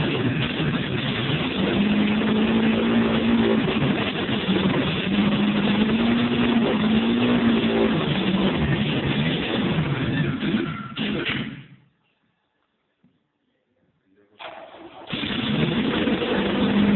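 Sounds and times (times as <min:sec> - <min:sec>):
car engine revving: 0:00.0 - 0:11.6, 0:14.5 - 0:16.9.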